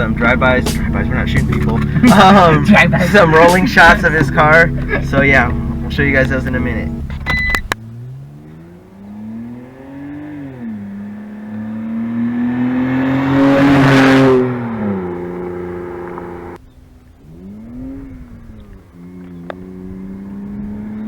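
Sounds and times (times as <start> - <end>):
car exhaust accelerating past: 0.0 - 21.0.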